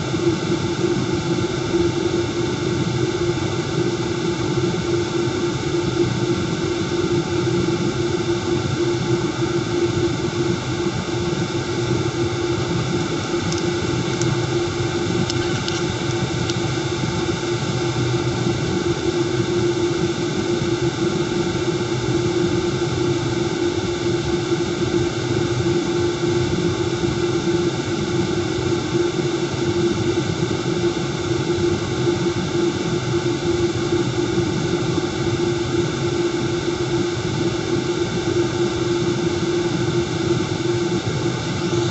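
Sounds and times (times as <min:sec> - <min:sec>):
wind tunnel fan running: 0:00.0 - 0:41.9.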